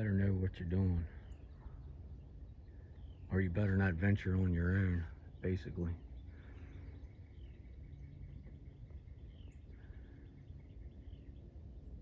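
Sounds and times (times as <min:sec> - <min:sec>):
faint birds chirping: 0:00.0 - 0:12.0
low background rumble: 0:00.0 - 0:12.0.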